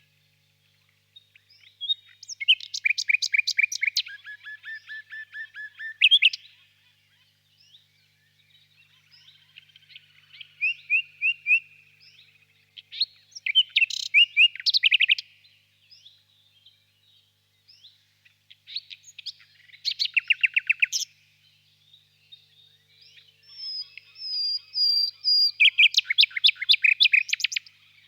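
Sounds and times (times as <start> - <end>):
nightingale singing: 1.2 - 6.6, 7.6 - 28.0.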